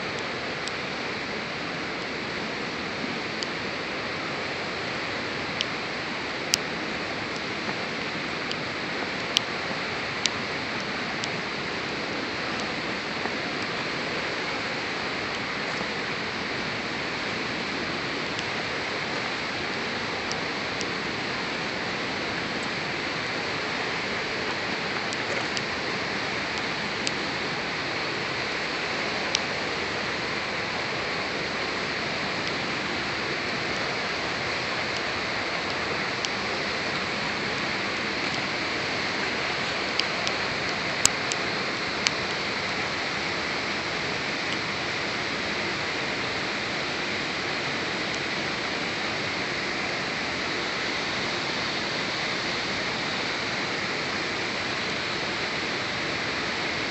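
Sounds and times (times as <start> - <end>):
steady rushing noise: 0.0 - 56.9.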